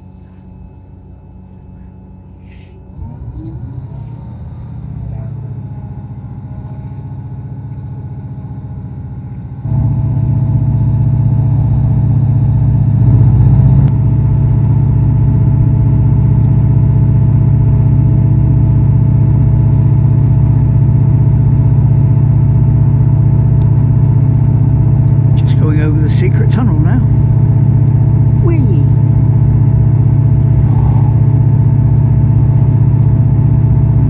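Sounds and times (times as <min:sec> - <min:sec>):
diesel train engine drone: 0:00.0 - 0:34.0
faint whine: 0:00.0 - 0:34.0.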